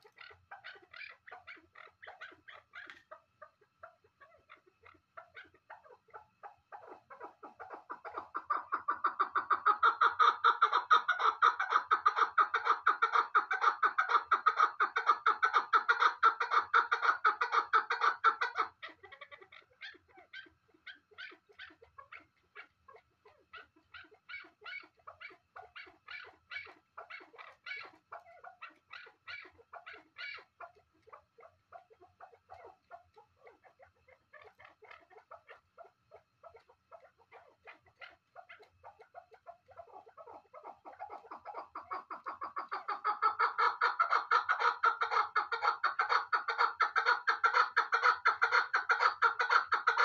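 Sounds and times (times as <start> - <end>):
partridge calling rapid notes: 0.0 - 50.0.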